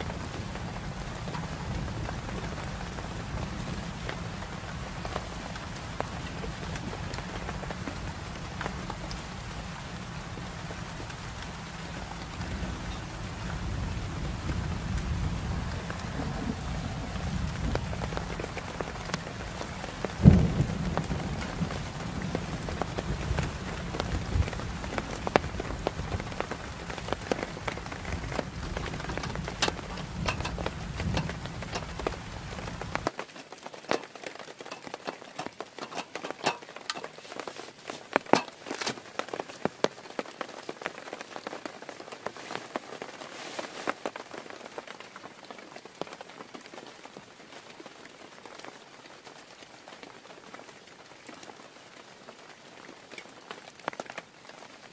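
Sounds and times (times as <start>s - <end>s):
heavy rain falling: 0.0s - 54.9s
raindrops tapping: 0.0s - 54.9s.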